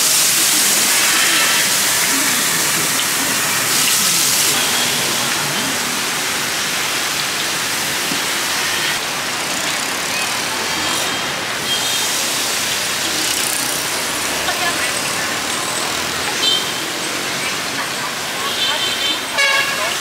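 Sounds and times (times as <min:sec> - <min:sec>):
fritters deep-frying in hot oil: 0:00.0 - 0:20.0.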